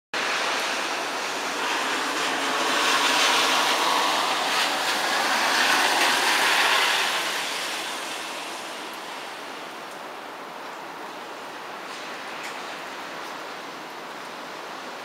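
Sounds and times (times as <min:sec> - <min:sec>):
heavy rain: 0:00.2 - 0:15.0.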